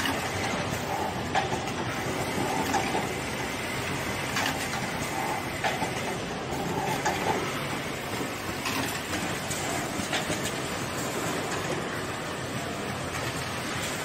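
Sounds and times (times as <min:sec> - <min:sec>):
factory background noise: 0:00.0 - 0:14.0
machine mechanical clatter: 0:00.0 - 0:14.0.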